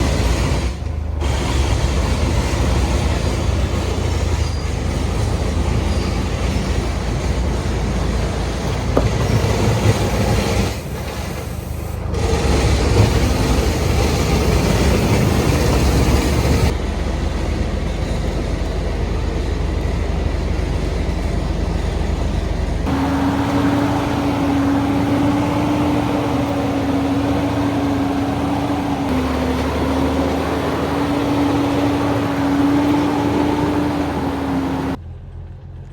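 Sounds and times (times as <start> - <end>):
truck engine under load: 0.0 - 35.9.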